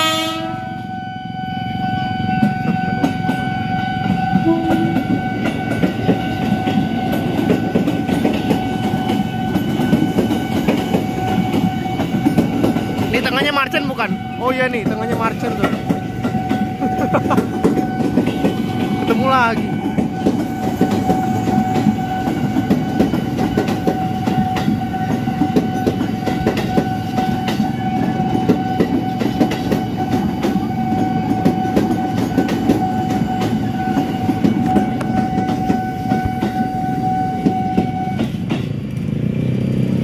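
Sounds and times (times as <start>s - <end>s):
train cars rumbling: 0.0s - 40.0s
train wheels clicking over rail joints: 2.4s - 14.0s, 14.7s - 40.0s.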